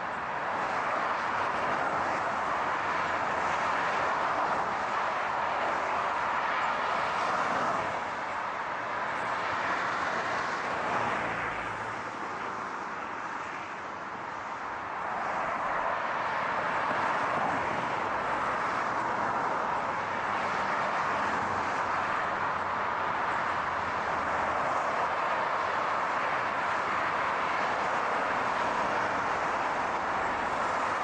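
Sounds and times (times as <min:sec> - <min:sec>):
steady car noise: 0:00.0 - 0:31.0.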